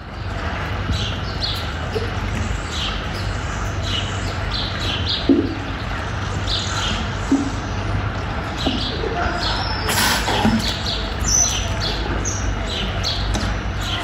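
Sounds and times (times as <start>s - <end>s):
birds chirping: 0.0s - 14.0s
steady background noise: 0.0s - 14.0s.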